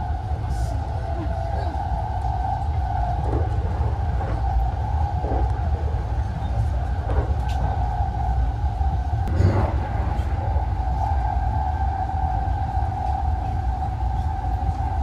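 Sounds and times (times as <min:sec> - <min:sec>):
train interior rumble and whine: 0:00.0 - 0:15.0.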